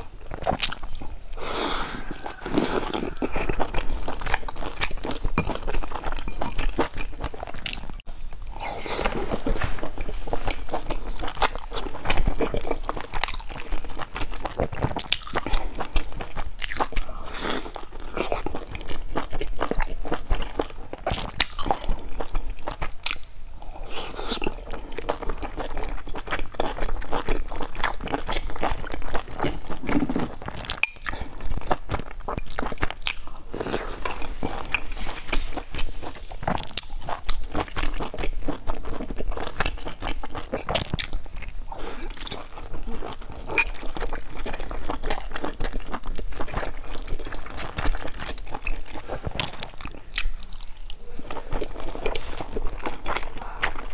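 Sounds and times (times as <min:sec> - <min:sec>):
chewing and biting soft buns: 0:00.0 - 0:53.9.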